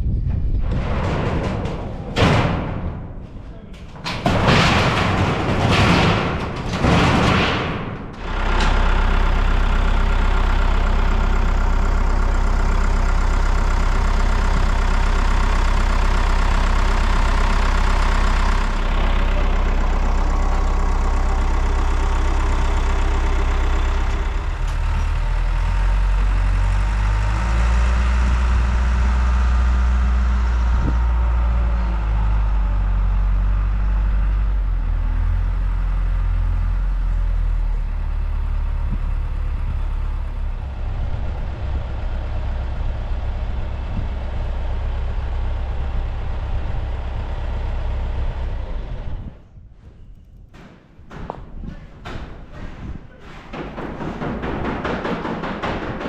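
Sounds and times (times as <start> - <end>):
large engine droning: 0.0 - 56.0.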